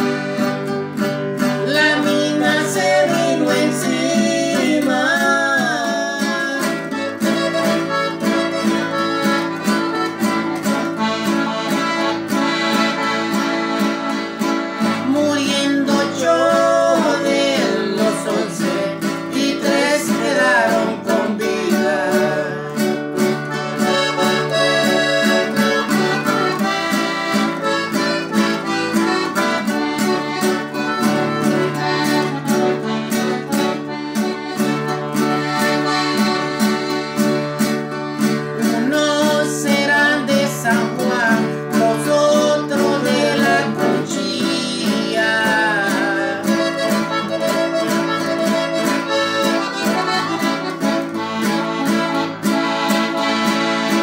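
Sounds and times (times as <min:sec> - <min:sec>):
accordion melody: 0:00.0 - 0:54.0
strummed acoustic guitar: 0:00.0 - 0:54.0.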